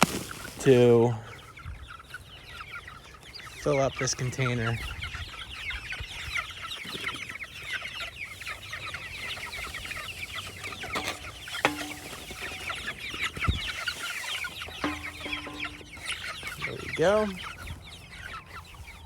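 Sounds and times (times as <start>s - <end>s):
chicks peeping and cheeping: 0.0s - 19.0s.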